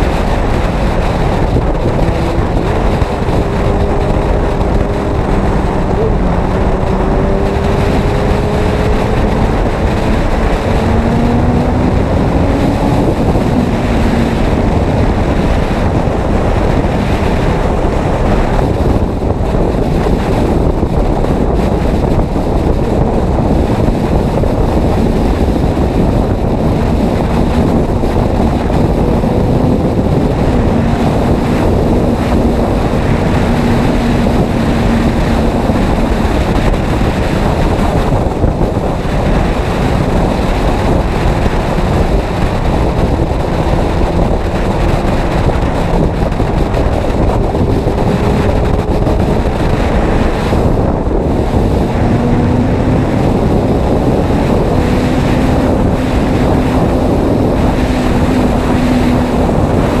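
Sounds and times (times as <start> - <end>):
motorcycle engine hum: 0.0 - 60.0
wind rushing over microphone: 0.0 - 60.0.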